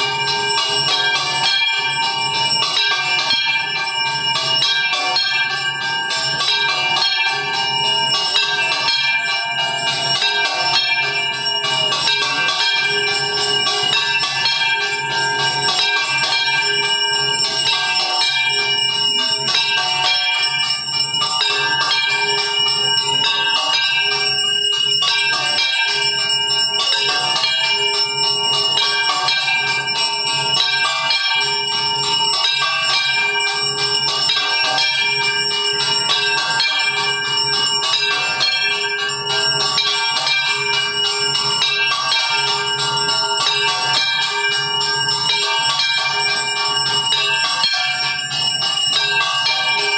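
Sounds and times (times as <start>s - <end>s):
temple bells clanging: 0.0s - 49.9s.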